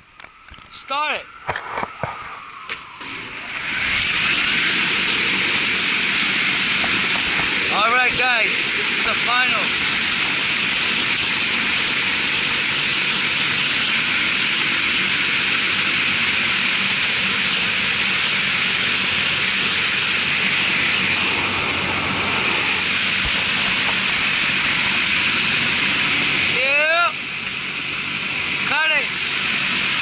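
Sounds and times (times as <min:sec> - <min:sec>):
cooling tower fan rushing air: 0:00.0 - 0:30.0.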